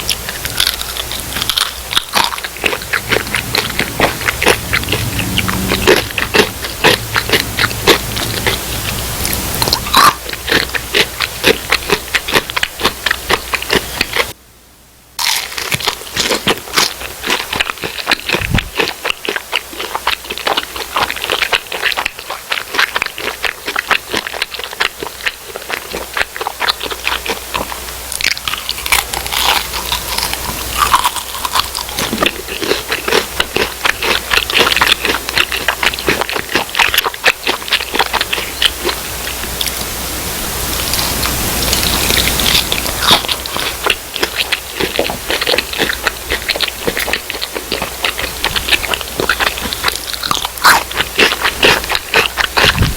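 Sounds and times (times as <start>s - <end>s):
crunching of crispy fried food: 0.0s - 14.4s, 15.2s - 52.9s.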